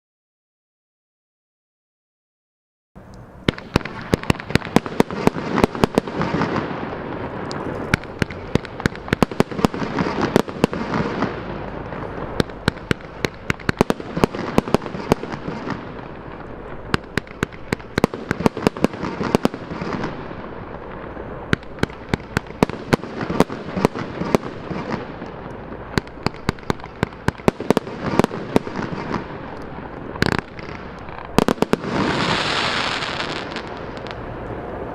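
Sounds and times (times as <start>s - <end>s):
firework bangs: 3.4s - 34.9s
firework hiss: 3.5s - 34.9s.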